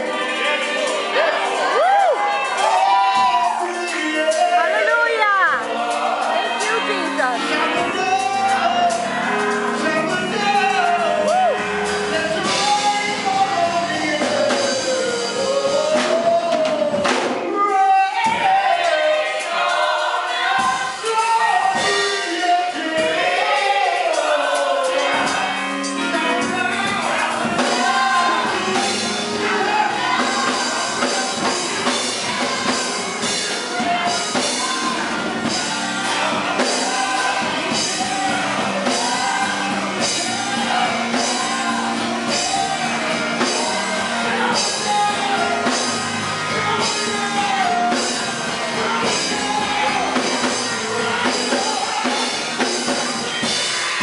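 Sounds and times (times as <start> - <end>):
live band with drums and keyboard: 0.0 - 54.0
man singing through microphone: 0.0 - 54.0.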